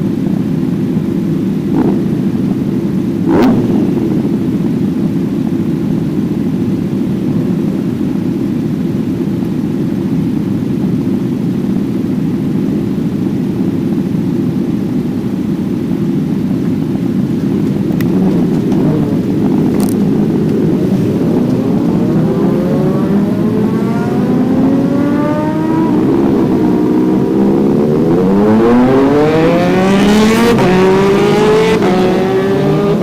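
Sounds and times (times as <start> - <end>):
motorcycle engine at speed: 0.0 - 33.0.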